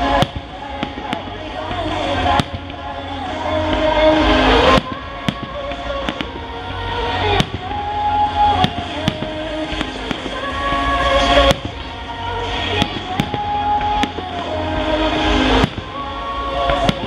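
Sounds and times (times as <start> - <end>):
firework bangs: 0.0 - 17.0
music with long held notes: 0.0 - 17.0.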